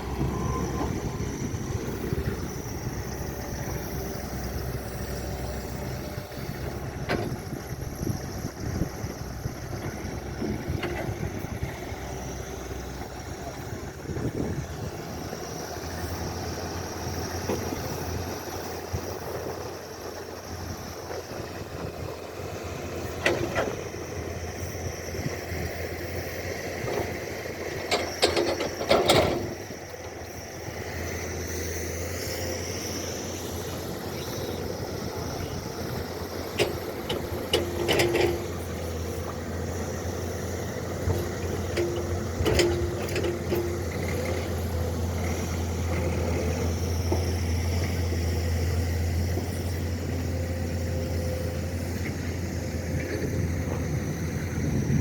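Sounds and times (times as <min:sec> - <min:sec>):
construction machine engine running: 0:00.0 - 0:55.0.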